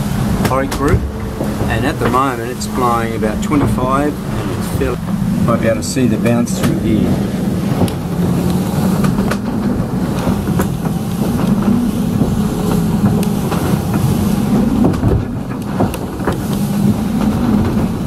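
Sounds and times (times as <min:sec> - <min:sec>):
boat rumbling through rough water: 0:00.0 - 0:18.0
hulls knocking on waves: 0:00.0 - 0:18.0
strong wind: 0:00.0 - 0:18.0.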